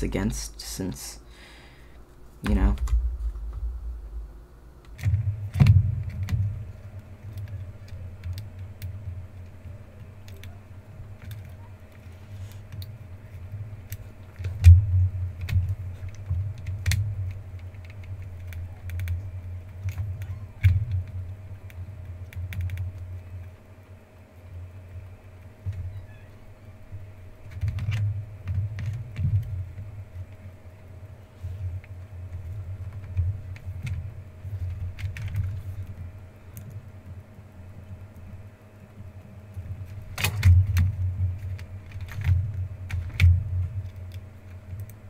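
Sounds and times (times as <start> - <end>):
faint steady whine: 0.0 - 45.0.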